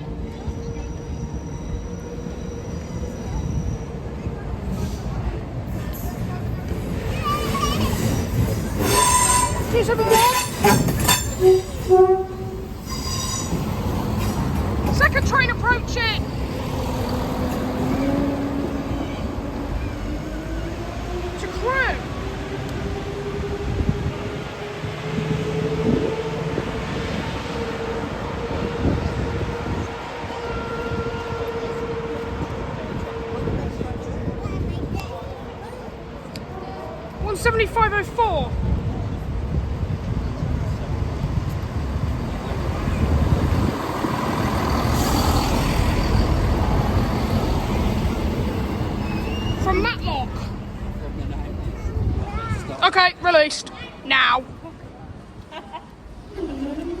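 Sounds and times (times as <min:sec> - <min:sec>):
diesel train passing: 0:00.0 - 0:57.0.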